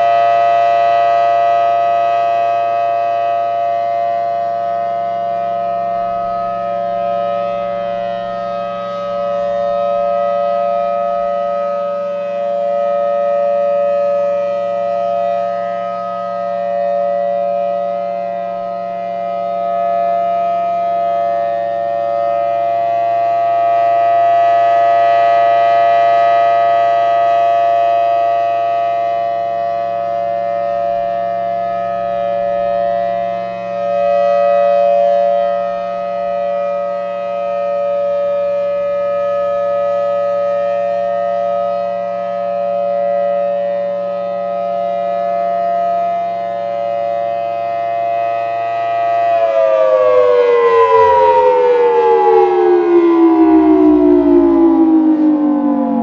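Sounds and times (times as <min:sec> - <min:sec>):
tornado siren steady chord: 0:00.0 - 0:56.0.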